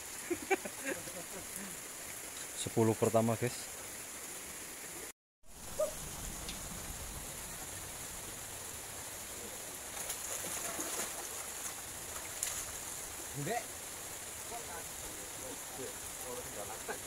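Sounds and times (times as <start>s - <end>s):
water-like hiss: 0.0s - 17.0s.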